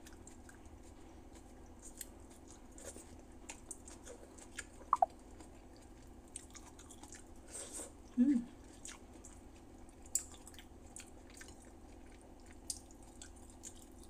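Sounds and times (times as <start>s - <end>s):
person chewing food: 0.0s - 7.4s, 8.6s - 14.0s.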